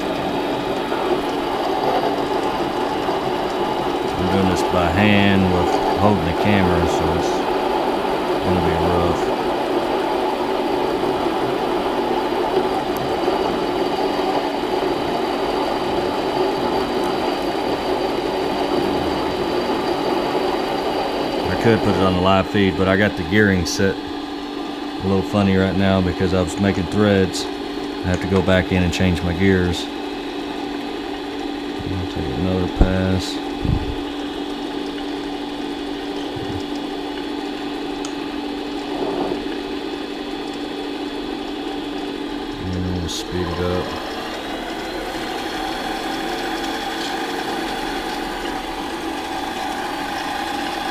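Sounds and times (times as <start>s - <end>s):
lathe motor humming: 0.0s - 50.9s.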